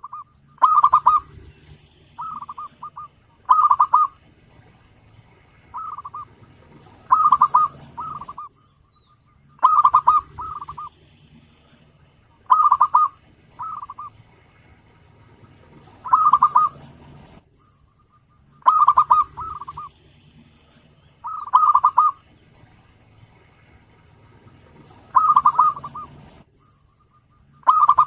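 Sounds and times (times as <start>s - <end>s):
dove cooing: 0.0s - 8.7s, 9.5s - 14.4s, 15.2s - 28.0s.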